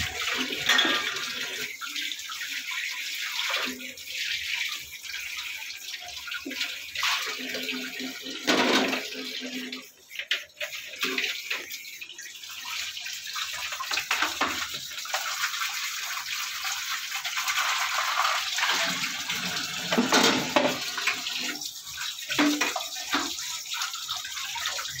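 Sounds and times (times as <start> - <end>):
tap water splashing into basin: 0.0 - 25.0.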